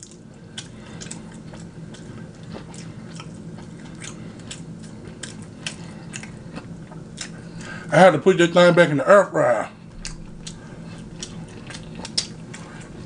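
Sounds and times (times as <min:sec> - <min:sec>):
person chewing with lip-smacks: 0:00.0 - 0:07.8, 0:09.9 - 0:13.0
low steady hum: 0:00.0 - 0:13.0.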